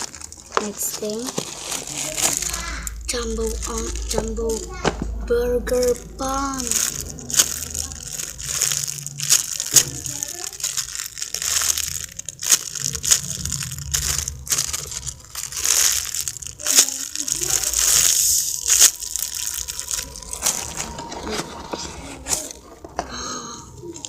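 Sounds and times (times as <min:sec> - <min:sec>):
plastic packaging crinkling: 0:00.0 - 0:23.0.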